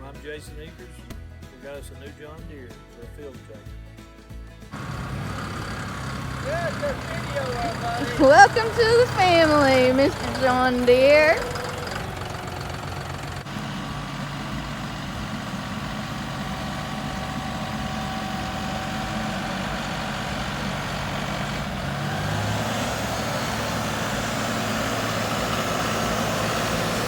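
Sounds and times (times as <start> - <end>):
tractor diesel engine idling: 4.8 - 27.0.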